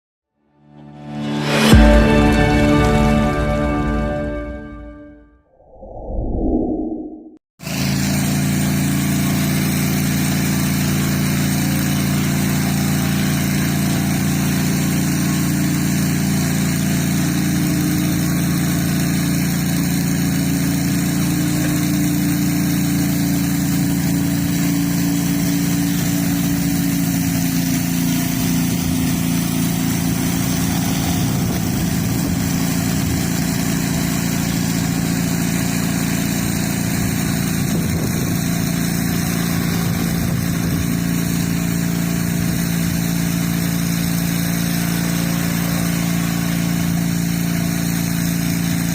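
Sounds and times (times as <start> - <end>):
high-pressure water spray hissing: 7.6 - 48.9
pressure washer engine running: 7.6 - 48.9.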